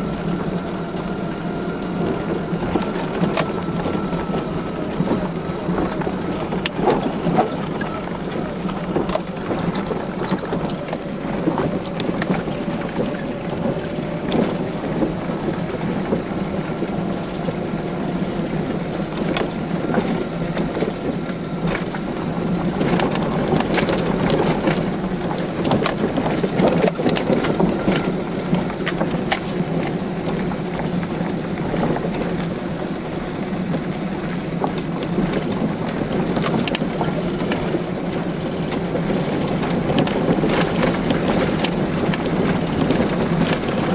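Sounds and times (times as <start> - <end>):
car rattling over stones: 0.0 - 43.9
engine and tyre drone: 0.0 - 43.9.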